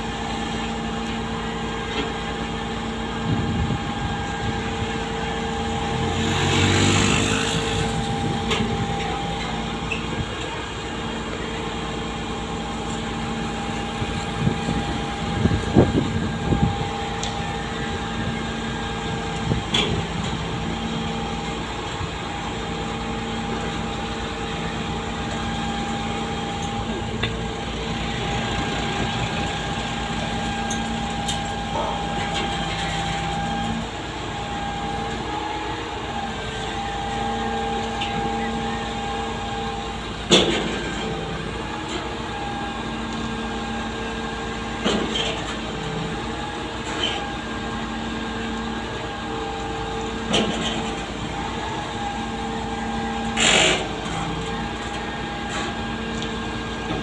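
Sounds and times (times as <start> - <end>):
pump truck engine droning: 0.0 - 57.0.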